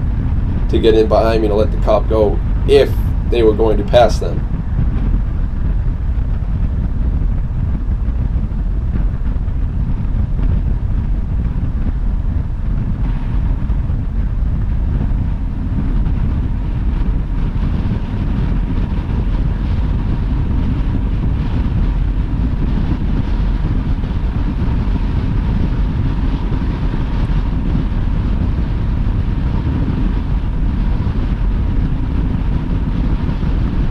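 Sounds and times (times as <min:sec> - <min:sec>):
car road and wind noise: 0:00.0 - 0:33.9
faint steady whine: 0:00.0 - 0:33.9.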